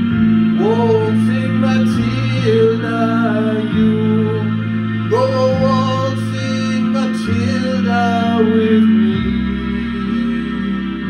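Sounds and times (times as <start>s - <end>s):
sustained instrumental chords: 0.0s - 11.0s
man singing a slow ballad: 0.6s - 10.7s.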